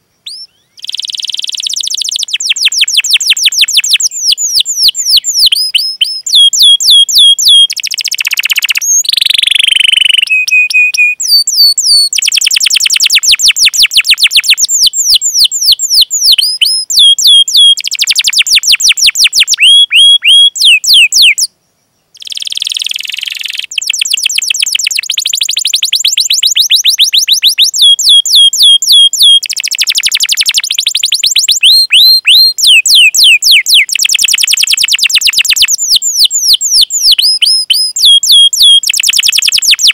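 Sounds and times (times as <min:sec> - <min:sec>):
canary singing trills: 0:00.0 - 0:21.5, 0:22.1 - 0:39.9.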